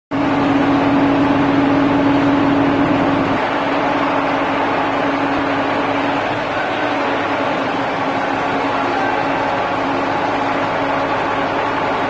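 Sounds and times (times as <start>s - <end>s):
broad mechanical noise: 0.1s - 12.0s
crane drive humming: 0.2s - 12.0s.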